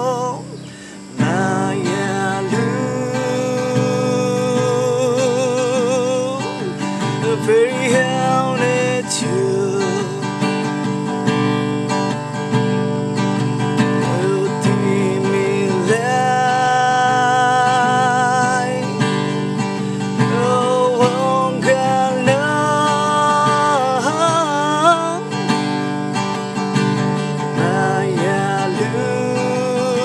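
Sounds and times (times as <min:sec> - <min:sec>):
man singing: 0:00.0 - 0:10.8, 0:13.8 - 0:25.7, 0:27.2 - 0:30.0
acoustic guitar: 0:00.0 - 0:30.0.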